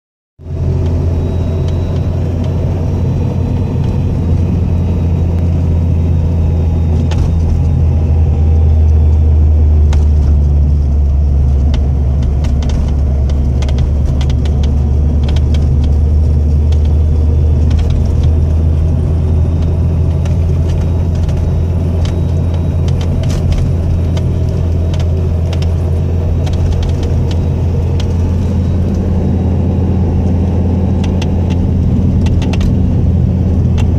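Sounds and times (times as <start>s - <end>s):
car engine idling: 0.4s - 33.9s.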